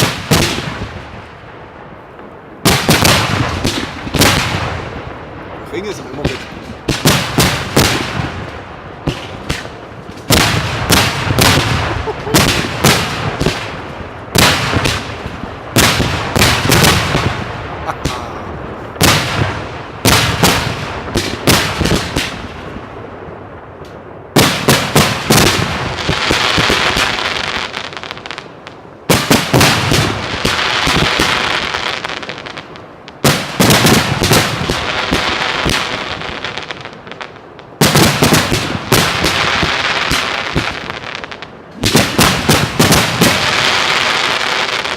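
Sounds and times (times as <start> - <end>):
dense firework crackling: 0.0 - 44.9.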